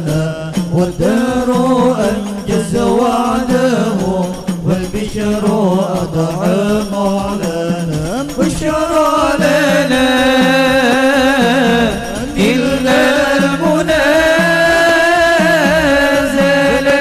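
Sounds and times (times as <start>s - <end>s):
background music: 0.0s - 17.0s
person chanting devotional verses: 0.0s - 17.0s.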